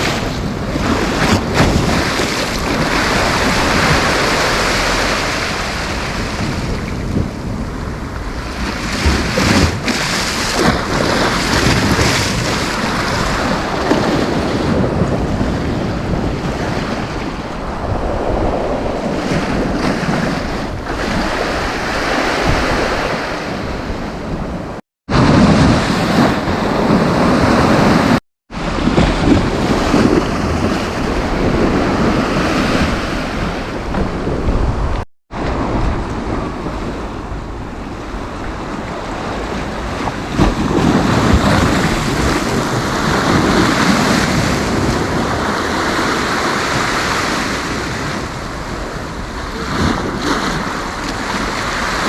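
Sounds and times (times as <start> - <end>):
sea waves breaking: 0.0 - 52.0
wind buffeting microphone: 0.0 - 52.0.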